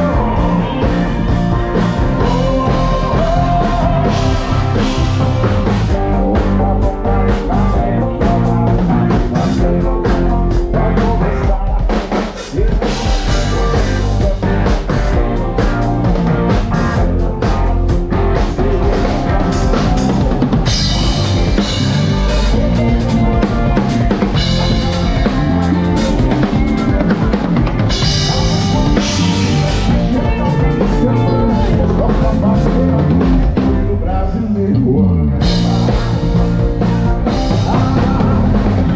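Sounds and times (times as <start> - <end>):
bass guitar: 0.0 - 38.9
drum kit: 0.0 - 38.9
electric guitar: 0.0 - 38.9
keyboard: 0.0 - 38.9.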